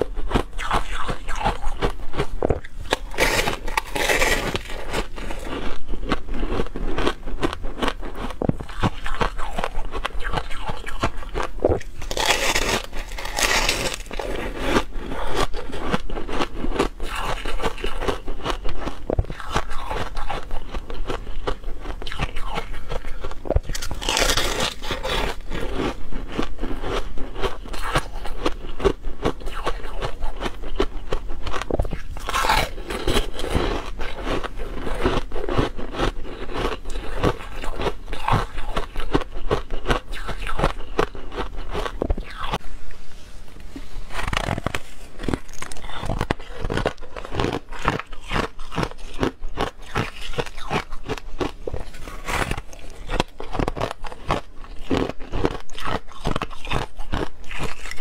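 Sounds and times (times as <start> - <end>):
frost being chewed crunching: 0.0 - 42.6, 43.8 - 58.0.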